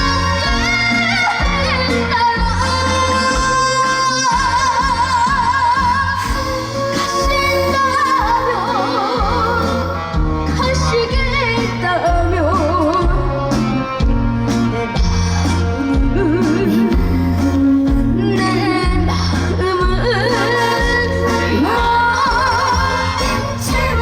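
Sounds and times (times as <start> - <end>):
backing track with bass line: 0.0 - 24.0.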